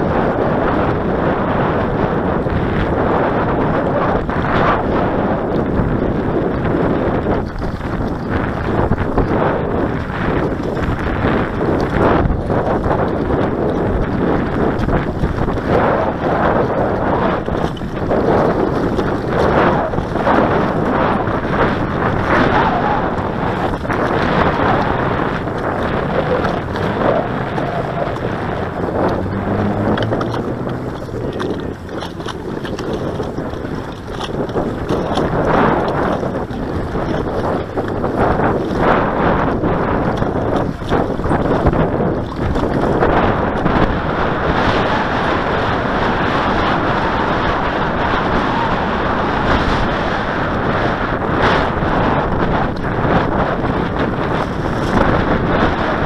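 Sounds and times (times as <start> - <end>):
wind gusts on microphone: 0.0 - 56.0
lake water lapping: 0.7 - 56.0.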